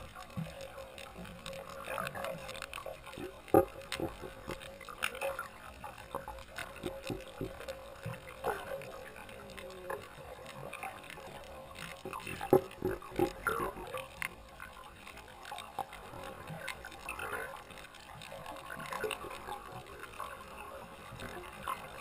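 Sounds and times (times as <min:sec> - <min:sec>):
muffled water sloshing underwater: 0:00.0 - 0:22.0
small clicks: 0:00.0 - 0:22.0.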